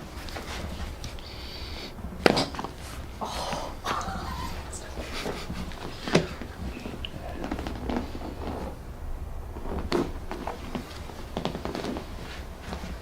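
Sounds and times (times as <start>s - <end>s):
low steady hum: 0.0s - 13.0s
rustling on treatment table: 0.0s - 13.0s.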